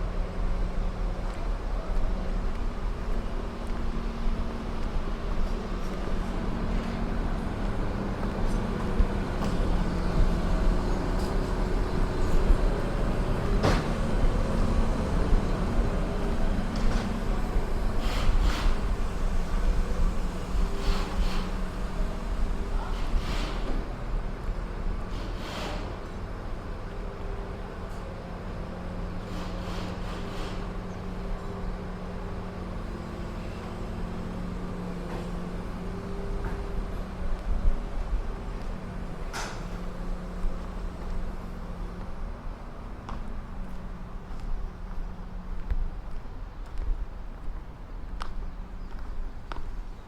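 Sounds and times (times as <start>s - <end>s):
engine running: 0.1s - 48.2s.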